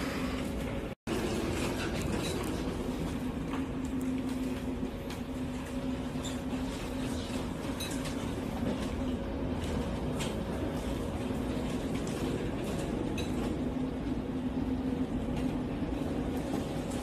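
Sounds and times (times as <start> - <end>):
ship machinery humming: 0.0 - 17.0.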